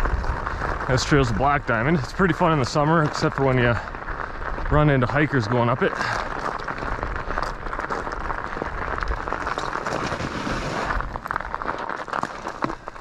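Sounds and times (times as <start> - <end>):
crunching footsteps on packed snow: 0.0 - 13.0.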